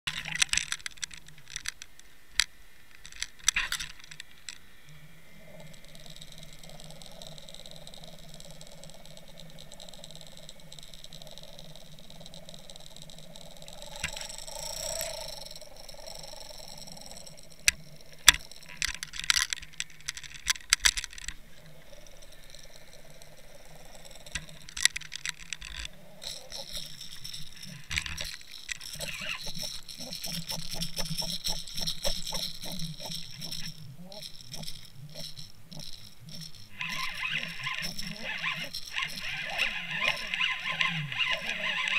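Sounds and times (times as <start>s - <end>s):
underwater clicking and rattling: 0.1s - 4.7s, 5.5s - 41.9s
low hum: 0.1s - 41.9s.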